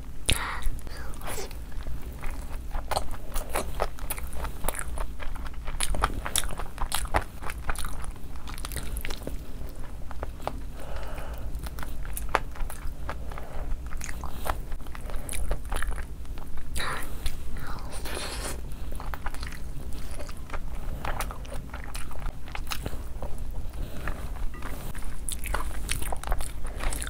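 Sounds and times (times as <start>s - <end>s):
chewing with wet mouth smacks: 0.2s - 17.4s, 18.4s - 27.0s
crunching food: 0.3s - 27.0s.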